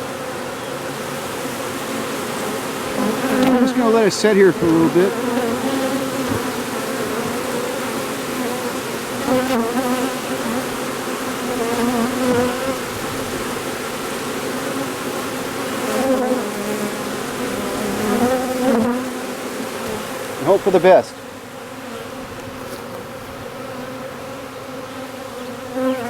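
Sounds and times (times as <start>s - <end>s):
bee swarm buzzing: 0.0s - 26.0s.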